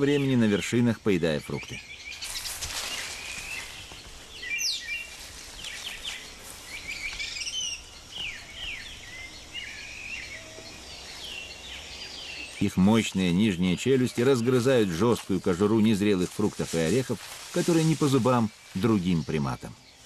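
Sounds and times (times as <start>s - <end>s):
steady background hiss: 0.0s - 20.0s
birds chirping and whistling: 1.4s - 20.0s.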